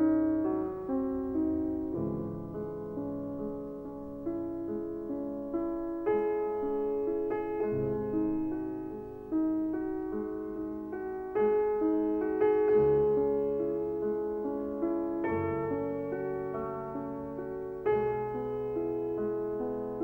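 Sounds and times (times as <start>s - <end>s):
slow solo piano music: 0.0s - 20.0s.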